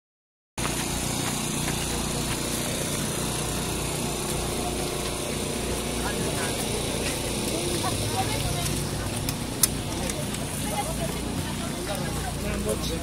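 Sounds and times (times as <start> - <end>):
crowd chatter: 0.6 - 13.0
low mechanical drone: 0.6 - 13.0.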